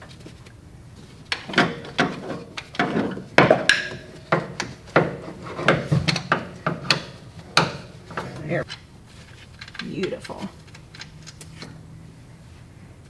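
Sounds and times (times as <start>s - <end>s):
hand tools clicking on metal: 1.3s - 11.8s.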